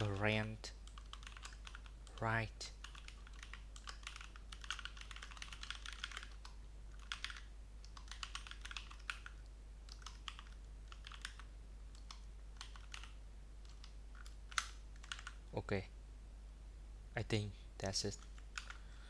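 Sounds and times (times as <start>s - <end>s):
computer keyboard typing: 0.0s - 15.4s, 18.2s - 18.8s.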